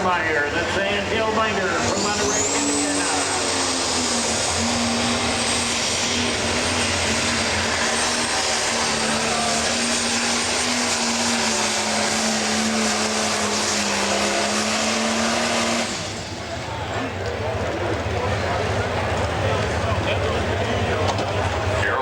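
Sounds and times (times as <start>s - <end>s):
diesel engine running flat out: 0.0s - 22.0s
high turbo whine: 0.0s - 22.0s.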